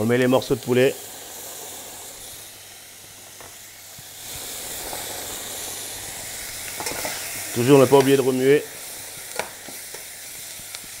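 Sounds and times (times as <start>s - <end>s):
chicken and onions sizzling in pan: 0.0s - 11.0s.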